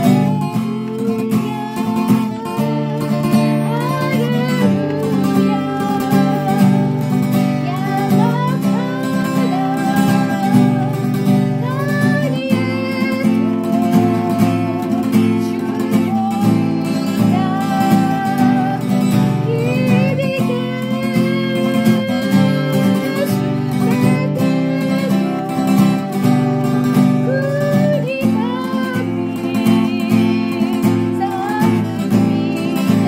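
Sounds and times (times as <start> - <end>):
acoustic guitar strumming: 0.0 - 33.0
person singing: 0.0 - 33.0.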